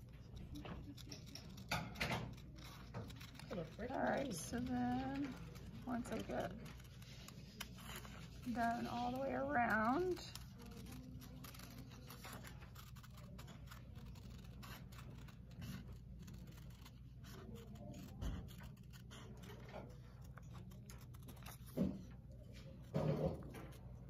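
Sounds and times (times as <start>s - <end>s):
scissors cutting paper: 0.0s - 24.0s.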